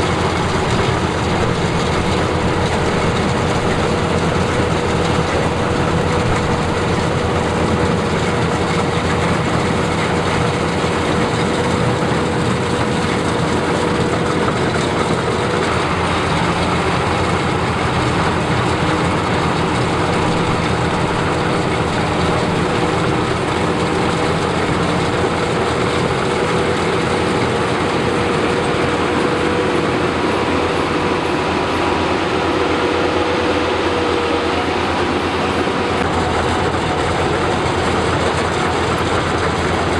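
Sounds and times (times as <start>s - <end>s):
combine harvester drone: 0.0s - 39.9s
steady mechanical whine: 0.0s - 39.9s.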